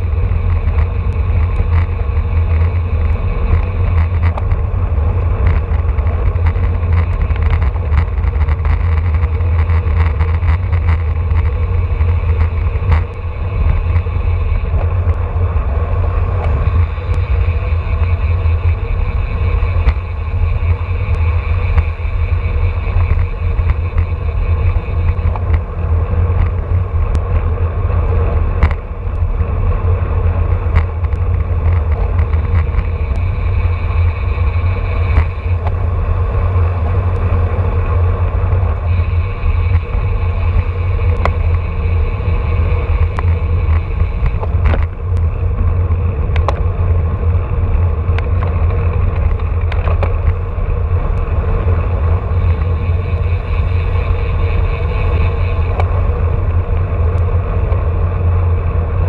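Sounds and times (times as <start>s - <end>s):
tyres hissing on road: 0.0s - 59.0s
wind rumble on microphone: 0.0s - 59.0s.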